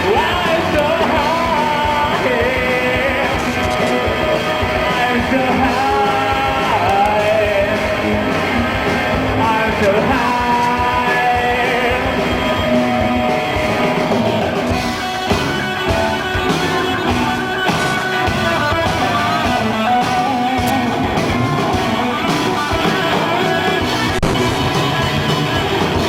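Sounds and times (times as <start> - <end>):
bass guitar: 0.0 - 26.0
distorted electric guitars: 0.0 - 26.0
drums: 0.0 - 26.0.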